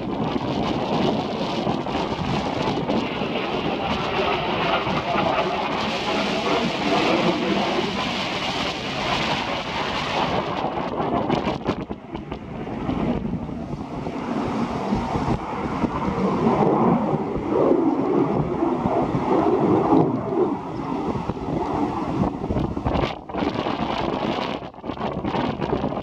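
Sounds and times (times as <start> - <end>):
jet aircraft rushing overhead: 0.0 - 26.0
wind buffeting microphone: 0.0 - 26.0.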